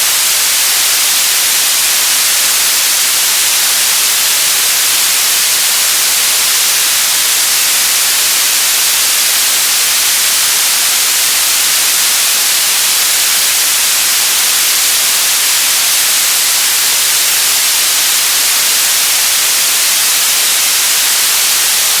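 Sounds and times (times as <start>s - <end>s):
white noise hiss: 0.0s - 22.0s.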